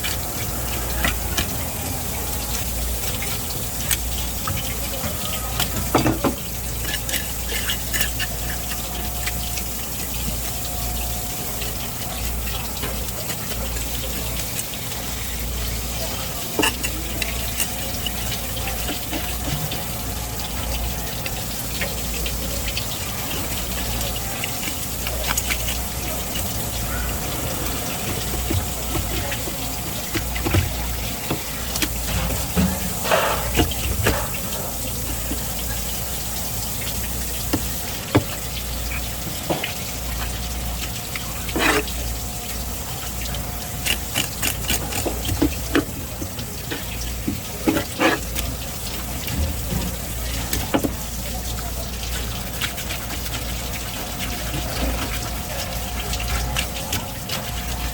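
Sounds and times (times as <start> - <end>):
tap water running: 0.0 - 57.9.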